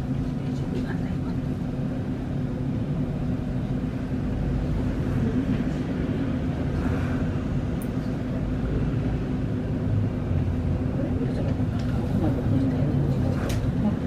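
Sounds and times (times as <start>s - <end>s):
road traffic rumble: 0.0s - 14.0s
tram equipment low hum: 0.0s - 14.0s.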